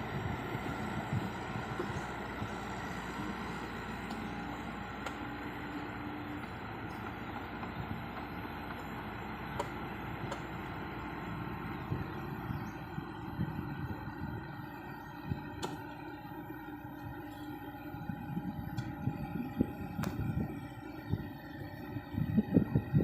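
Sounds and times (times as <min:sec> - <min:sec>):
diesel engines running: 0:00.0 - 0:23.0.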